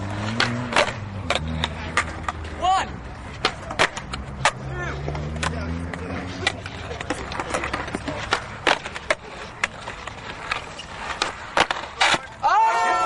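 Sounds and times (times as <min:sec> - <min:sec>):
skateboard clacking on concrete: 0:00.1 - 0:13.0.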